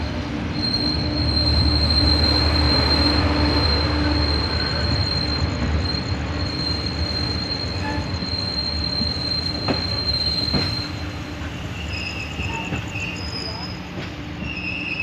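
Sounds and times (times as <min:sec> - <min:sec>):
train running gear rumbling: 0:00.0 - 0:15.0
high-pitched wheel squeal: 0:00.5 - 0:15.0.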